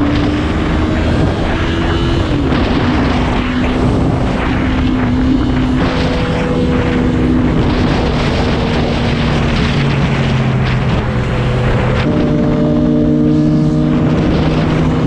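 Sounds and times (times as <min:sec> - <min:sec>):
motorcycle engine cruising: 0:00.0 - 0:15.0
wind rush over microphone: 0:00.0 - 0:15.0.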